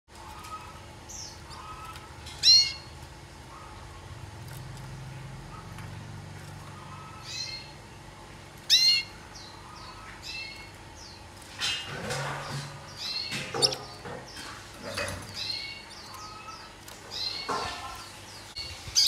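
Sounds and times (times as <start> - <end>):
canary calls: 0.1 - 7.8, 8.6 - 19.0.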